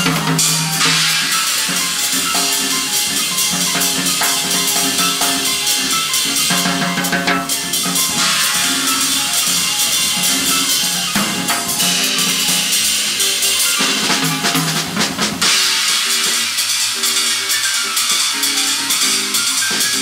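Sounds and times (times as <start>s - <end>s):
drum kit with busy cymbals: 0.0s - 20.0s
piano: 0.0s - 20.0s.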